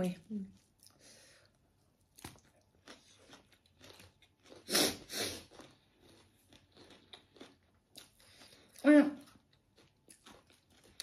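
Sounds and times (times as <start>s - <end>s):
crunchy chewing: 2.1s - 11.0s.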